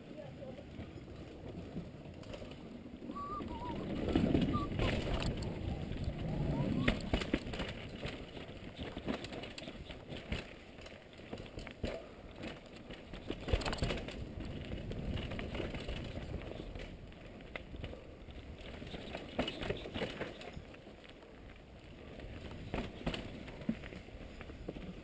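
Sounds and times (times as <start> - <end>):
bike tyres rolling and skidding: 0.2 - 25.0
bike rattling and knocking: 4.0 - 21.4, 22.0 - 25.0.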